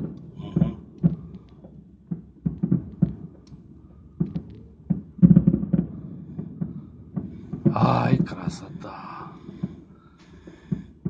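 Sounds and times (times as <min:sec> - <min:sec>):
fireworks booms and bangs: 0:00.0 - 0:11.0.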